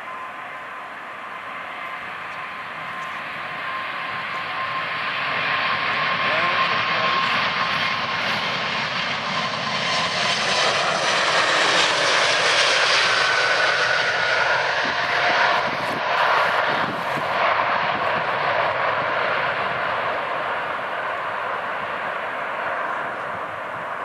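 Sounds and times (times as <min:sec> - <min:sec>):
jet engines running loud: 0:00.0 - 0:24.0.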